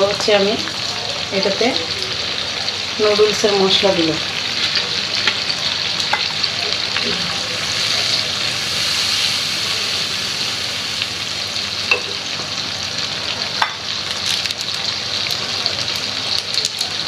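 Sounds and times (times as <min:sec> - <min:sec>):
food sizzling in frying pan: 0:00.0 - 0:17.0.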